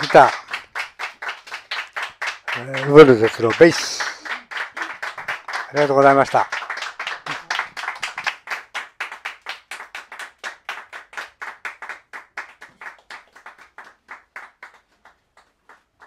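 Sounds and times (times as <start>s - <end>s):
audience applause: 0.0s - 14.9s.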